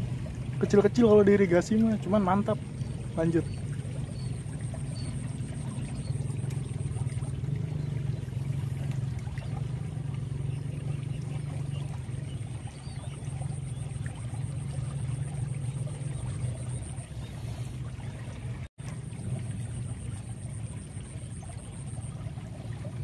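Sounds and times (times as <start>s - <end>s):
canal water rushing: 0.0s - 23.0s.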